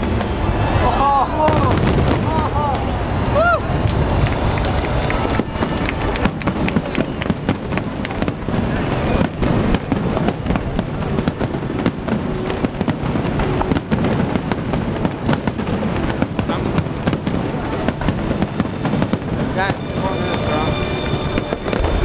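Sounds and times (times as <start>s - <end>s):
continuous rumble: 0.0s - 22.0s
firework shells bursting: 1.5s - 22.0s.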